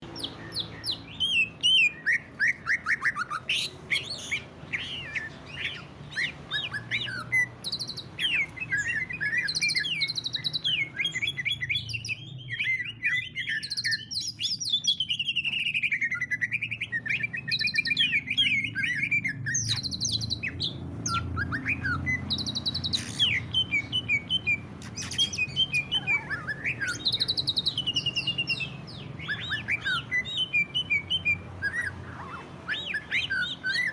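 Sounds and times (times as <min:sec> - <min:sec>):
bird singing chirps and trills: 0:00.0 - 0:33.9.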